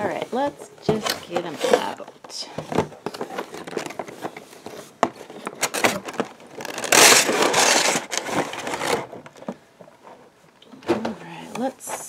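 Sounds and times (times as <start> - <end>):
plastic tray scraping and crinkling: 0.0 - 10.2.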